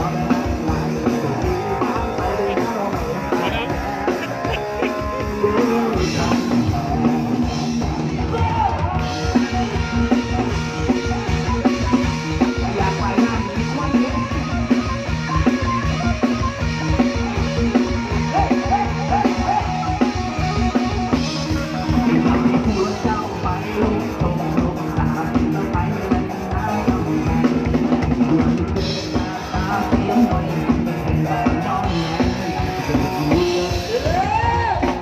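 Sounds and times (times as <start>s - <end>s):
drum kit fast beat: 0.0s - 35.0s
live band playing: 0.0s - 35.0s.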